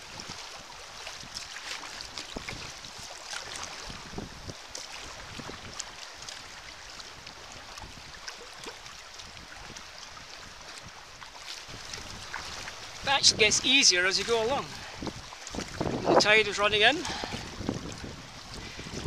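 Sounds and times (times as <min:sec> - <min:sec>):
water splashing around kayak: 0:00.0 - 0:19.0.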